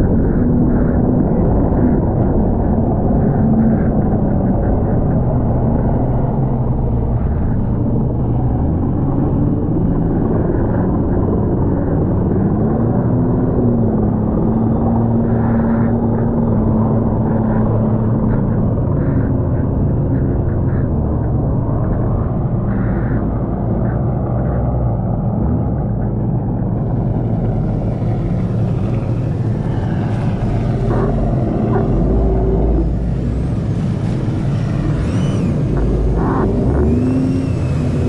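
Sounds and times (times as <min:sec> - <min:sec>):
jet ski engine drone: 0:00.0 - 0:38.0.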